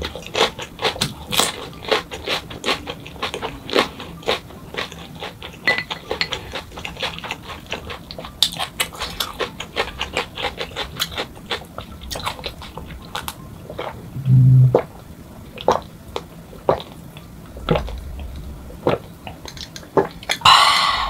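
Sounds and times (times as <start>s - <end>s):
person chewing food: 0.0s - 14.9s, 15.5s - 21.0s.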